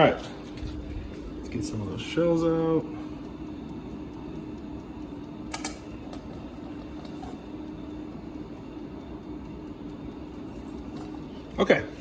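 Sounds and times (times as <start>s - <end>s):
low hum with constant tone: 0.0s - 12.0s.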